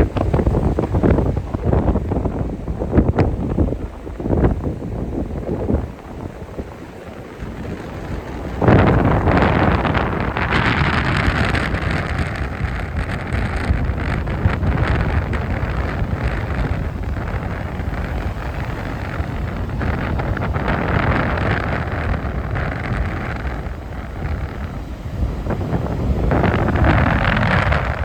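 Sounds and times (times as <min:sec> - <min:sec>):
heavy sea surf: 0:00.0 - 0:28.0
wind buffeting microphone: 0:00.0 - 0:28.0.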